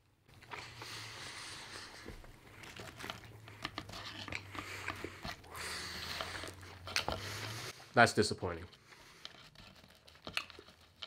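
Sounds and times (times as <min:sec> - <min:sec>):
chewing with mouth clicks: 0:00.3 - 0:07.8, 0:08.9 - 0:11.0.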